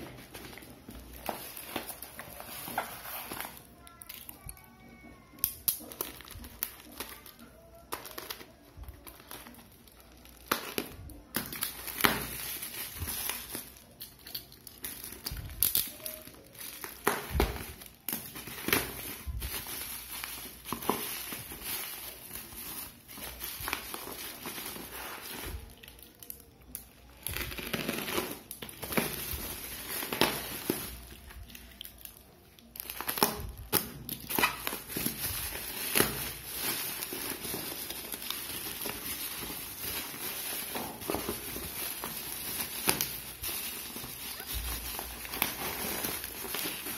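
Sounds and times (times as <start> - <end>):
bubble wrap crinkling: 0.0 - 46.9.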